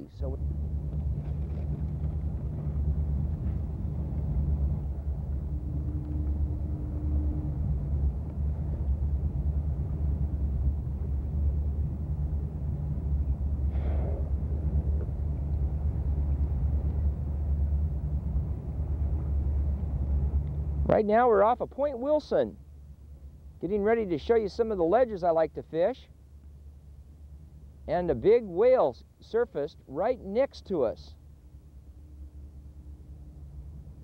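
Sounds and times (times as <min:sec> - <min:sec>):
boat engine rumbling: 0:00.0 - 0:28.6, 0:30.0 - 0:34.0.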